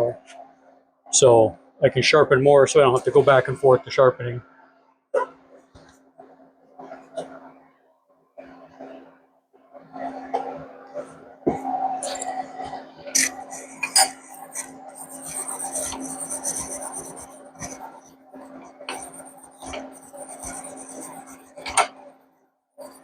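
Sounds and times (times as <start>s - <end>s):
steady low hum: 0.0s - 7.8s, 8.4s - 22.2s.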